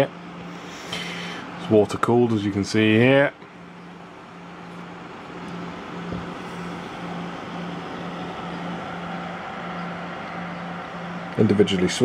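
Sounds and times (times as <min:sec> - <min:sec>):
water pump whirring: 0:00.0 - 0:12.0.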